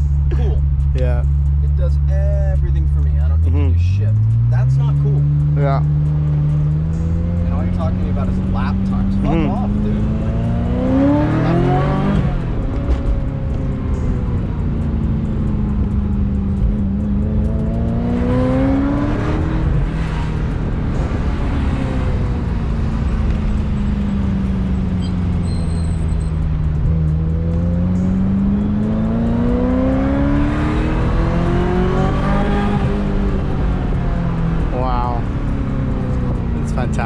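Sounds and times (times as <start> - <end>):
sports car engine revving: 0.0 - 37.0.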